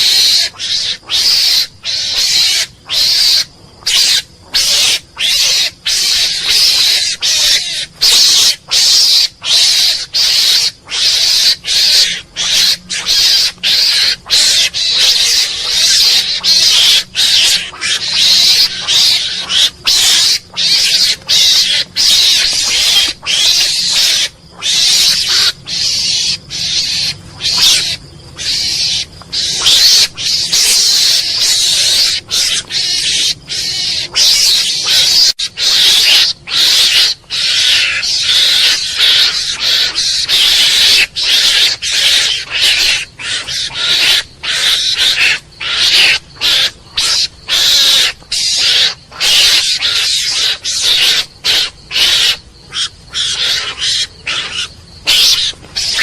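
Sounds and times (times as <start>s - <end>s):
mongoose calling with hiss-like bursts: 0.0s - 56.0s.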